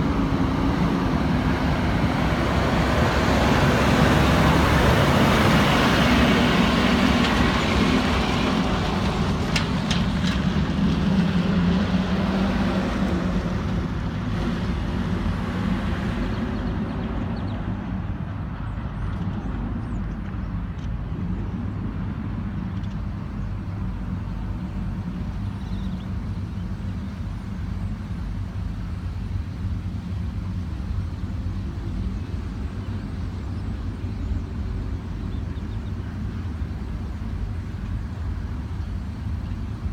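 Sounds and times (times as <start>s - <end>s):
vehicle motor rumbling: 0.0s - 39.9s.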